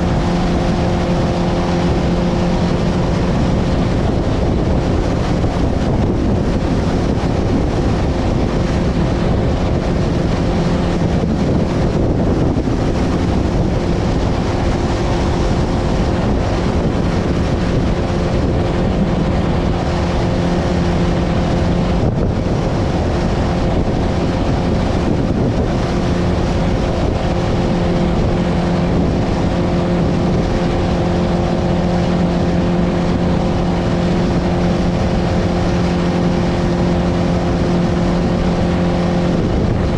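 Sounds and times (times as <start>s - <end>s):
motorboat engine running: 0.0s - 39.9s
wind buffeting microphone: 0.0s - 39.9s.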